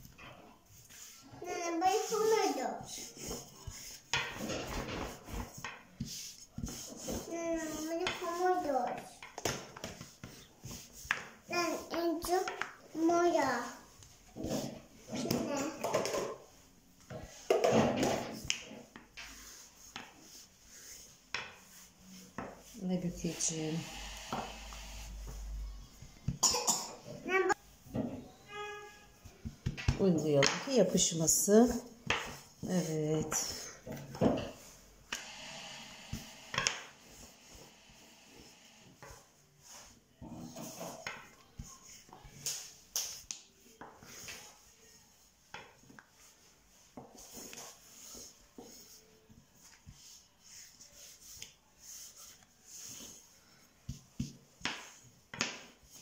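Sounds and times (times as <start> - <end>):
soft rubbing of dough: 0.0 - 26.4, 28.5 - 56.0.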